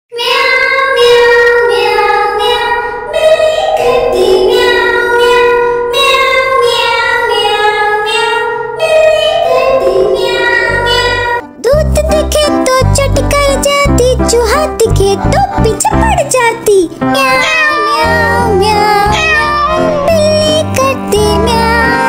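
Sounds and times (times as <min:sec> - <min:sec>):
child-like voice singing: 0:00.1 - 0:22.0.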